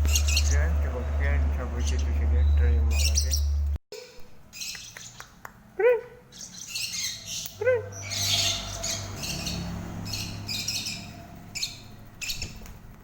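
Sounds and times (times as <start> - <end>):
lovebirds squawking and chirping: 0.0 - 5.4, 6.2 - 12.8.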